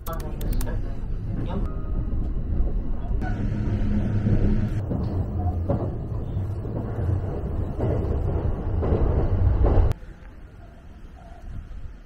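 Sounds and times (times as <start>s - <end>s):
train interior low rumble: 0.0s - 12.0s.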